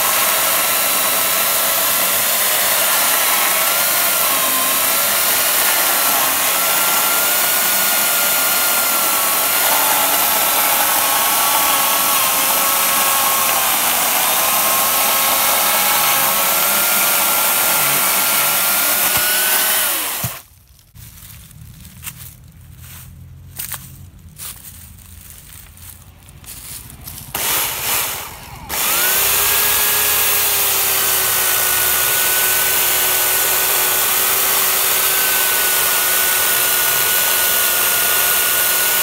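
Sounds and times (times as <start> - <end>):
electric chainsaw cutting log: 0.0 - 20.5, 27.0 - 39.0.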